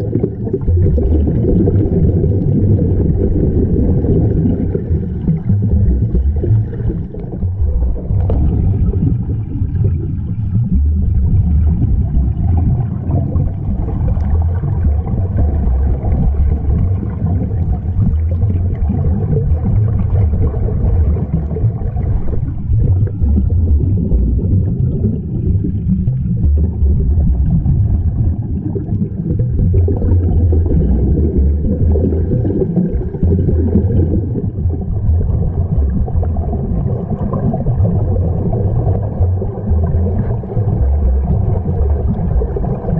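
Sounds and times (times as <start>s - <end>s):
air bubbling from diving helmets: 0.0s - 42.9s
low underwater rumble: 0.0s - 42.9s.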